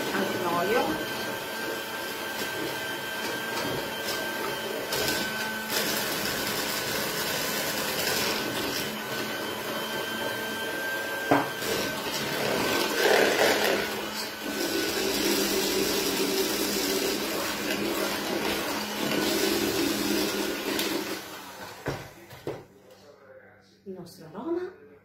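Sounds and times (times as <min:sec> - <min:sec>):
electric mixer whisking batter: 0:00.0 - 0:22.0.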